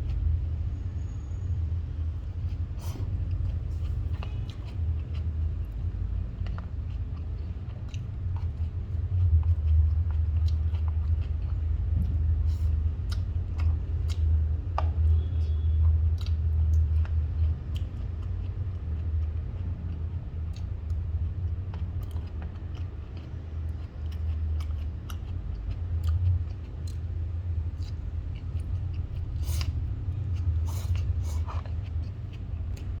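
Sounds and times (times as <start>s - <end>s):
chewing and biting crunches: 2.2s - 33.0s.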